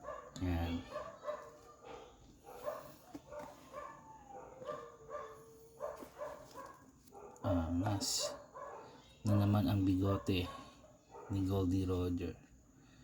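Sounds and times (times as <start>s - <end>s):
faint dog barking: 0.0s - 12.4s.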